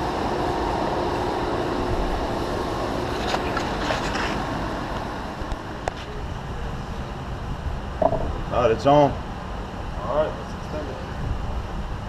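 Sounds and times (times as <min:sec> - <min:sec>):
machine-shop rumble and hiss: 0:00.0 - 0:12.0.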